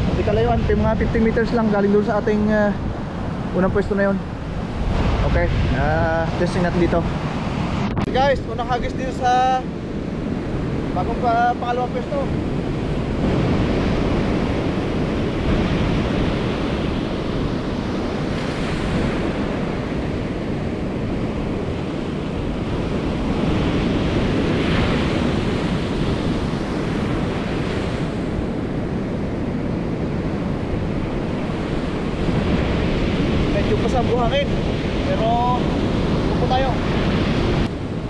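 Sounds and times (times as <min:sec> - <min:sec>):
ocean surf breaking on beach: 0:00.0 - 0:38.0
wind buffeting microphone: 0:00.0 - 0:38.0.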